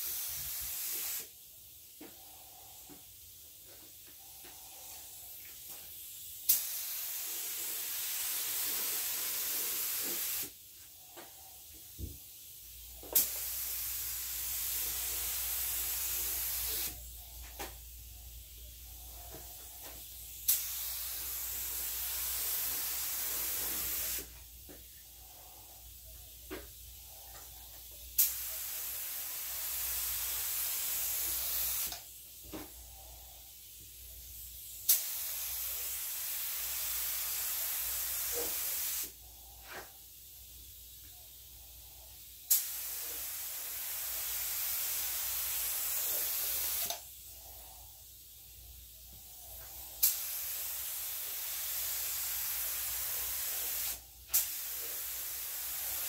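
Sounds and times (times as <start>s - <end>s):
spray gun hissing: 0.0s - 3.2s, 4.1s - 56.0s.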